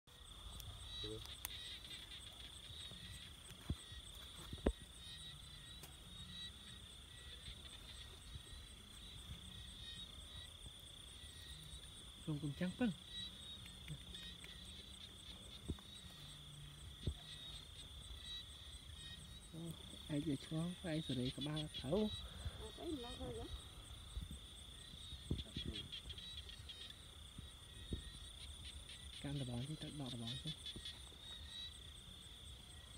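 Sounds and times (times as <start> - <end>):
crickets trilling: 0.1 - 32.9
faint pulsing insect chirp: 0.1 - 32.9.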